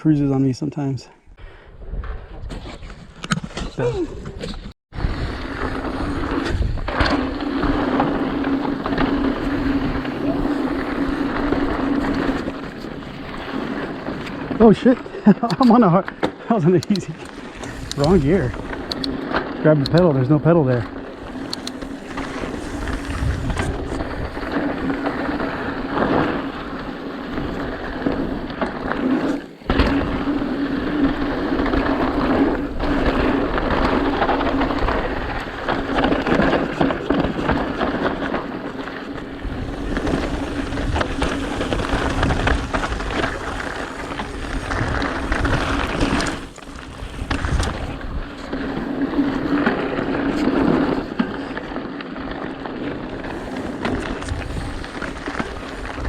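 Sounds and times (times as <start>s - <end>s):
bike tyres rumbling on gravel: 4.3s - 56.0s
bike rattling over bumps: 4.4s - 56.0s.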